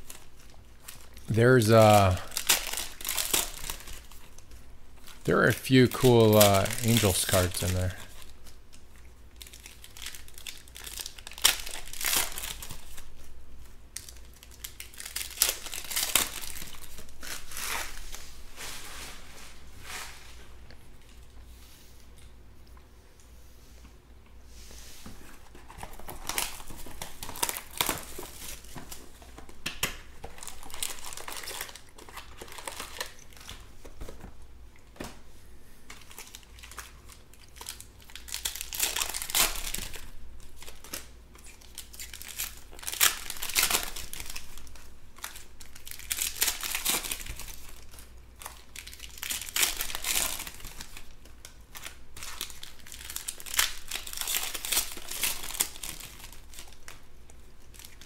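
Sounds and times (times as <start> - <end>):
foil wrappers crinkling and tearing: 0.0 - 18.8, 25.4 - 34.2, 35.9 - 58.0.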